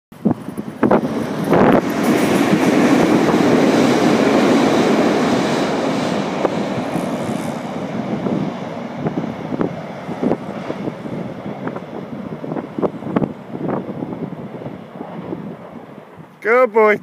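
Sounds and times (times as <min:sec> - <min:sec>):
passing train rumble: 0:00.1 - 0:17.0.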